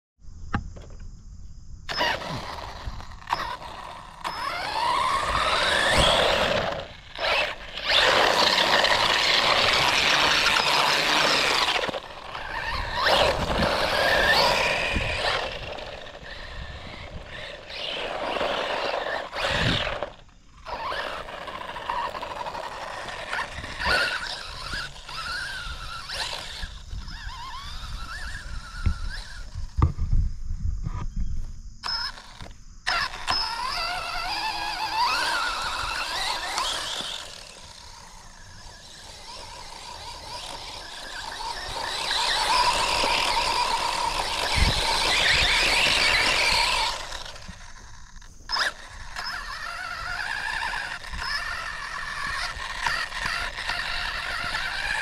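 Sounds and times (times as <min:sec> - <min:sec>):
electric motor whining: 0:01.9 - 0:30.0, 0:31.8 - 0:55.0.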